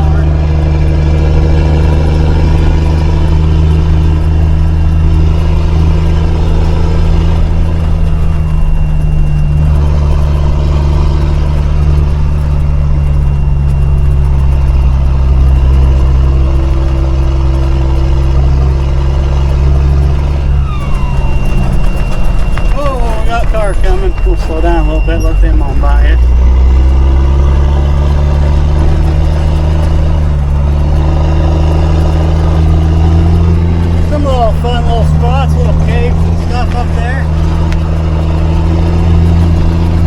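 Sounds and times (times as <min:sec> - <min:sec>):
truck engine droning under load: 0:00.0 - 0:40.0.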